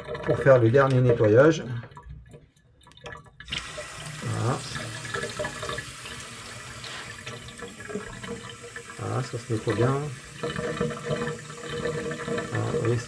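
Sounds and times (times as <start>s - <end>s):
tap water splashing into sink: 0.0s - 13.0s.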